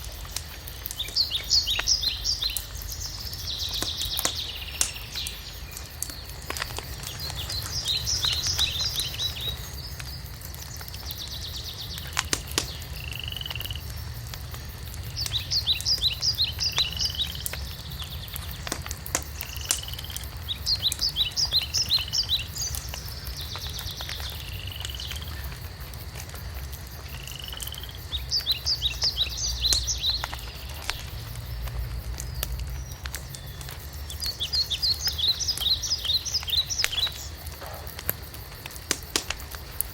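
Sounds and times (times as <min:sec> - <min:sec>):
songbirds singing: 0:00.0 - 0:26.1, 0:26.9 - 0:39.9
fireplace crackling and popping: 0:00.0 - 0:39.9.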